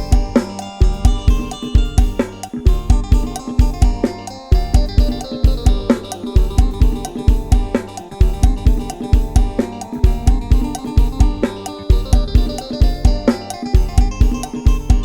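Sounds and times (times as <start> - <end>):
drum kit beat with cymbals: 0.0 - 15.0
plucked lead melody: 0.0 - 15.0.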